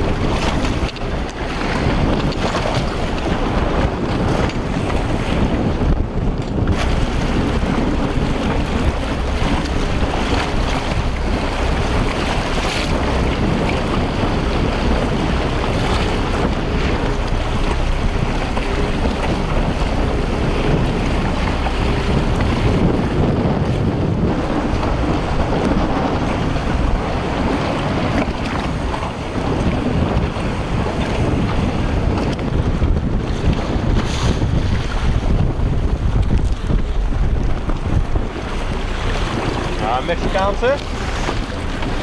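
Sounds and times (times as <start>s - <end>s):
waves splashing: 0.0s - 42.0s
wind buffeting microphone: 0.0s - 42.0s.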